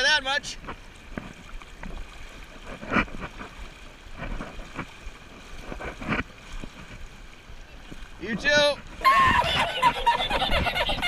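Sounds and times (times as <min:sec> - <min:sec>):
river water running: 0:00.0 - 0:11.0
short water splashes: 0:00.0 - 0:11.0.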